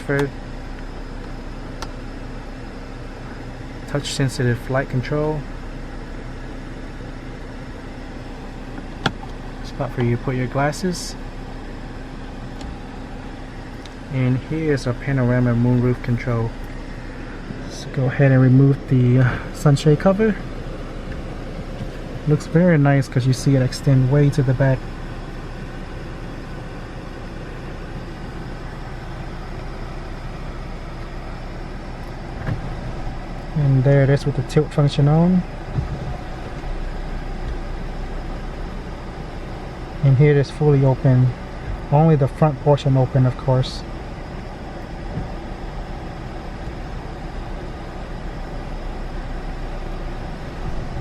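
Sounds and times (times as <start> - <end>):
engine idling cabin hum: 0.0 - 51.0.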